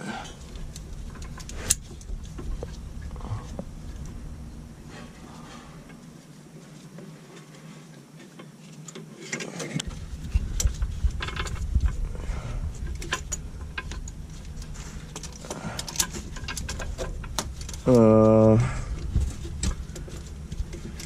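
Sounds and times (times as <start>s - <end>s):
low rumble: 0.2s - 6.2s, 9.8s - 21.0s.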